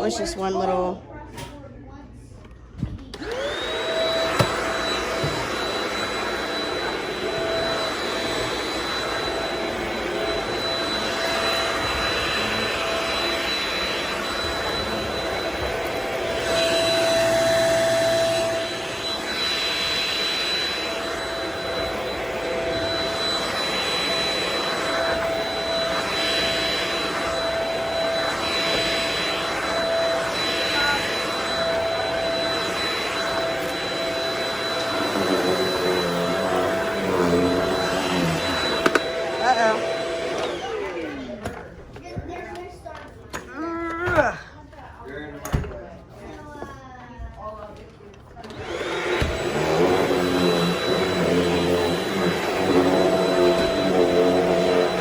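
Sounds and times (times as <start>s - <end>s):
vacuum cleaner motor whine: 3.1s - 42.1s, 48.4s - 55.0s.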